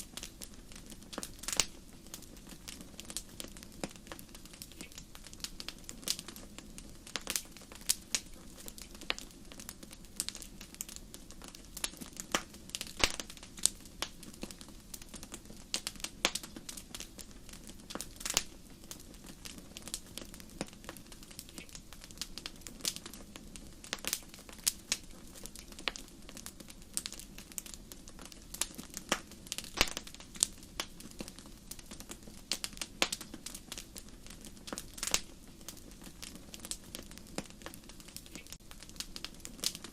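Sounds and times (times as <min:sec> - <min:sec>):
low hiss of flames: 0:00.0 - 0:39.9
wood fire crackling and popping: 0:00.0 - 0:39.9.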